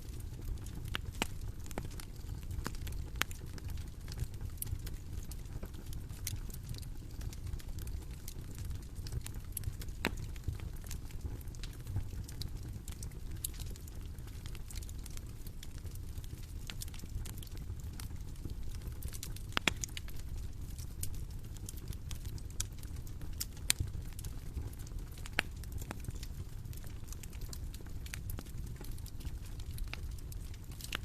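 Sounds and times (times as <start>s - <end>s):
bonfire crackling: 0.0s - 31.0s.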